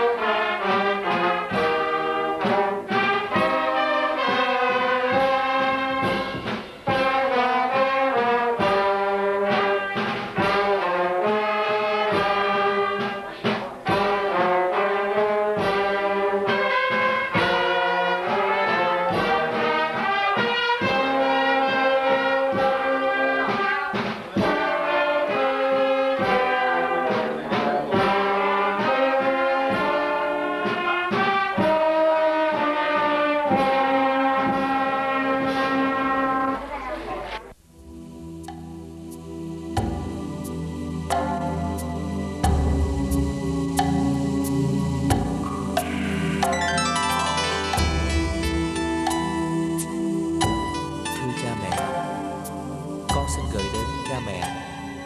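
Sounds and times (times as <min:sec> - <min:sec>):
brass band music: 0:00.0 - 0:55.0.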